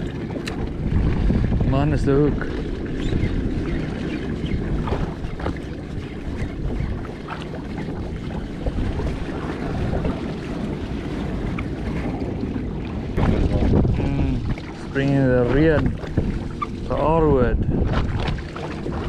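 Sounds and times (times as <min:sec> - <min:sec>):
water washing around hull: 0:00.0 - 0:19.0
wind buffeting microphone: 0:00.0 - 0:19.0.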